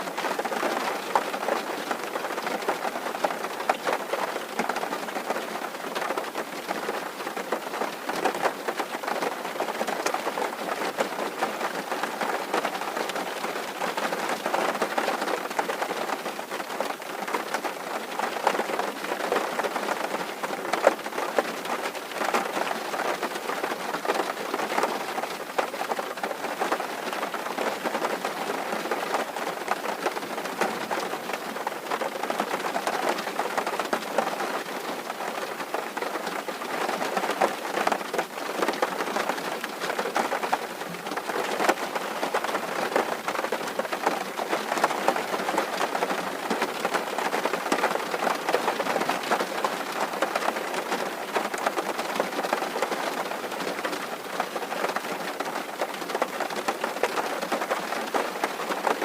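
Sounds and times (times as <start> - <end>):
rain drumming on a tin roof: 0.0 - 59.0.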